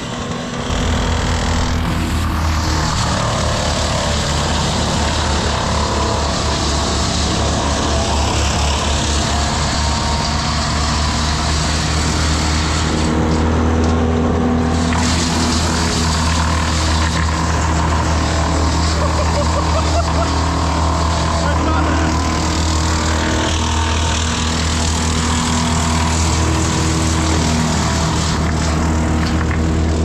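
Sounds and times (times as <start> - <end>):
machinery engine running: 0.0 - 30.0.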